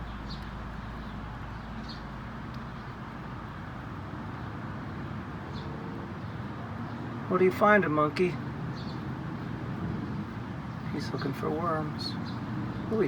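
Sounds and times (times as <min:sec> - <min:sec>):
distant traffic: 0:00.0 - 0:13.0.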